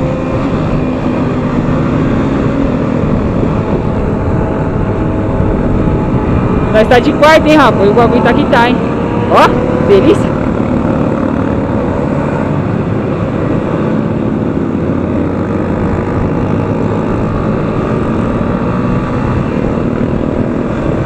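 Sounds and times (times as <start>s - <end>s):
motorcycle engine running: 0.0s - 21.0s
wind rushing on microphone: 0.0s - 21.0s.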